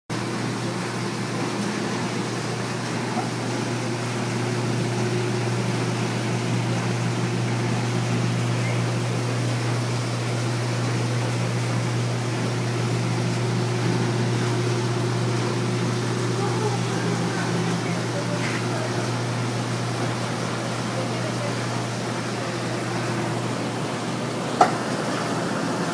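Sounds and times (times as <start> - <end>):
electric motor hum: 1.8 - 25.9.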